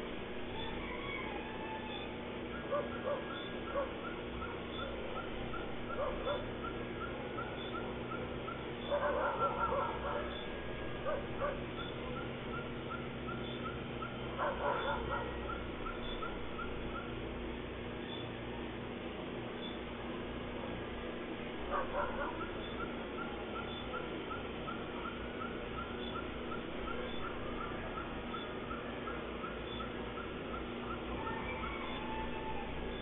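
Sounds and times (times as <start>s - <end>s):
animal whining yelping cries: 0.5s - 17.2s, 21.6s - 33.0s.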